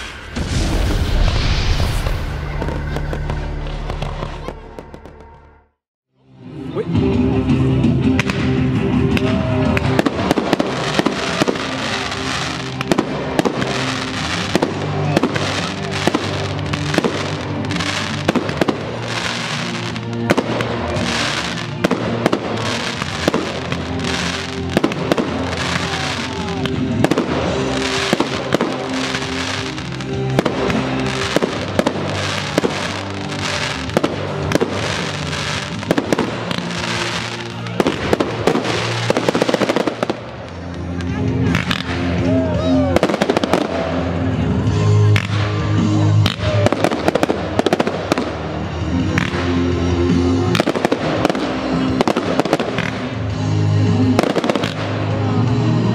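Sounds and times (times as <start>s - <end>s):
fireworks bangs: 0.0s - 5.6s, 8.2s - 42.2s, 42.9s - 44.1s, 46.2s - 49.6s, 50.5s - 53.3s, 54.1s - 55.9s
music with long held notes: 2.0s - 55.9s.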